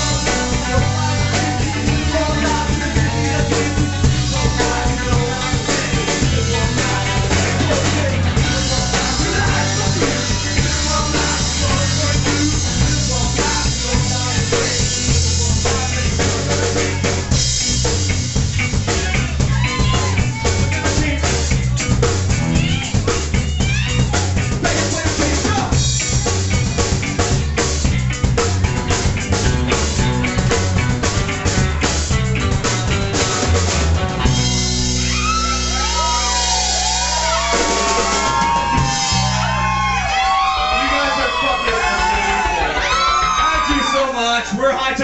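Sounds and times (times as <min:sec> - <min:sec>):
electric guitars: 0:00.0 - 0:44.0
drum kit: 0:00.0 - 0:44.2.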